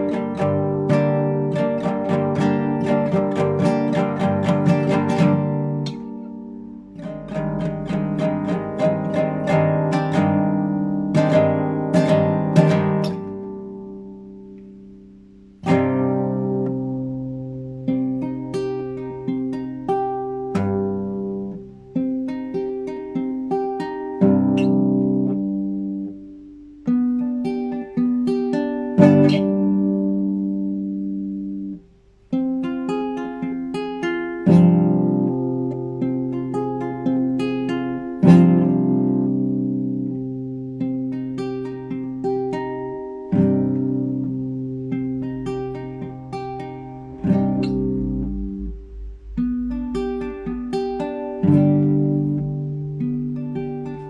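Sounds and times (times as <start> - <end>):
classical guitar playing: 0.0 - 54.0.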